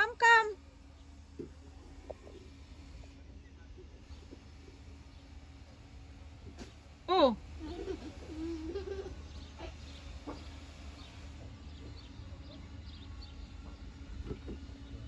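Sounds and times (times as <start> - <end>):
birds chirping: 0.0 - 6.9, 7.6 - 15.0
steady low hum: 0.0 - 15.0.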